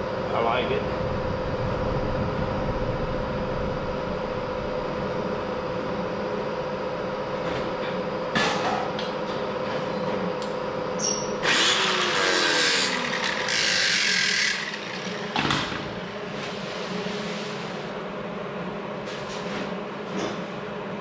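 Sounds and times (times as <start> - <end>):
steady shop hum: 0.0 - 21.0.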